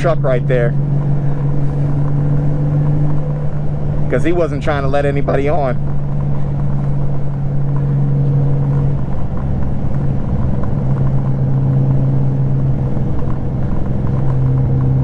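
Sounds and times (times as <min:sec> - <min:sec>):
motorcycle engine droning: 0:00.0 - 0:15.0
road rumble: 0:00.0 - 0:15.0.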